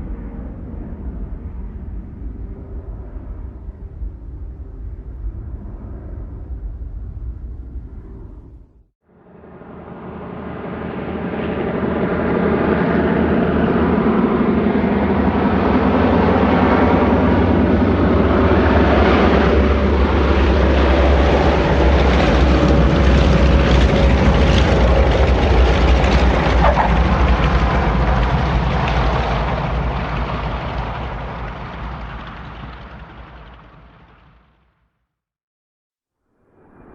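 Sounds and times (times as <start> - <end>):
jet engine rumble: 0.0 - 34.6.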